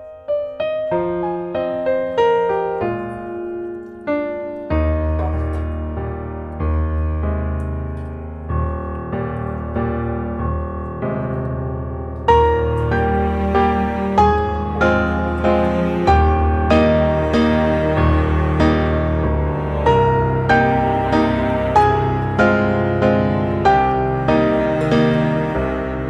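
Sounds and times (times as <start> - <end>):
slow piano music: 0.0 - 26.0.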